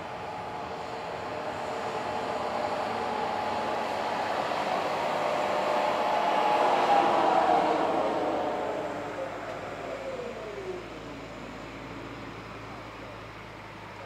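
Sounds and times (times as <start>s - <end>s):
jet engine whining: 0.0s - 14.0s.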